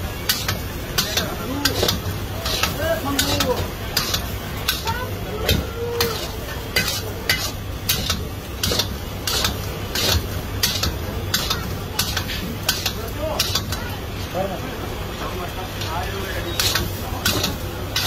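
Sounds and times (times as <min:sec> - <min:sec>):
metal ladle scraping wok: 0:00.2 - 0:13.8, 0:16.2 - 0:18.0.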